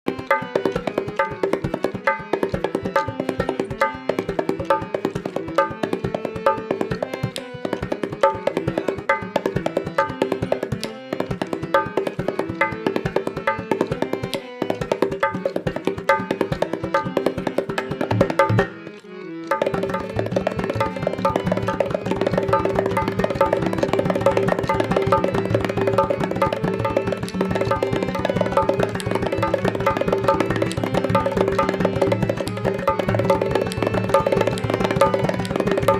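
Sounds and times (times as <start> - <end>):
hand drum playing: 0.4 - 18.8, 19.5 - 35.9.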